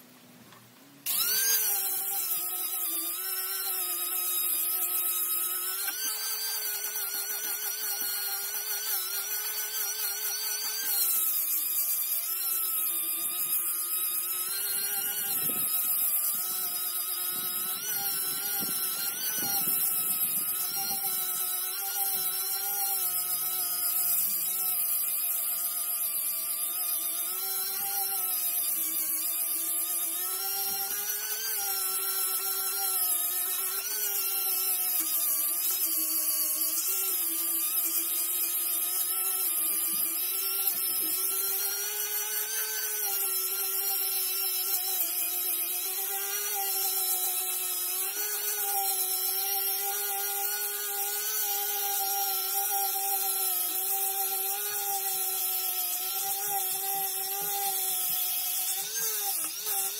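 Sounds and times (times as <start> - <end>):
power tool motor whine: 1.0 - 59.9.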